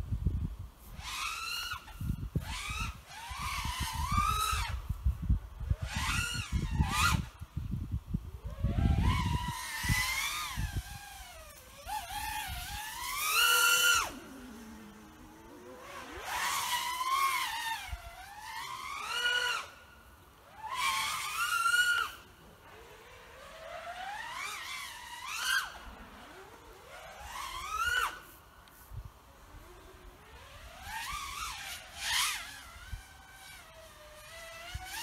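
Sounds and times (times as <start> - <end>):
drone motors whining: 0.8 - 35.0.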